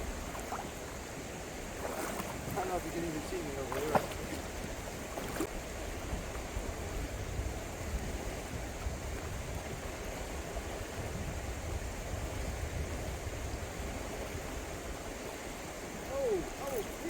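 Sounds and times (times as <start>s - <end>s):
river water rushing: 0.0s - 11.0s, 13.2s - 17.0s.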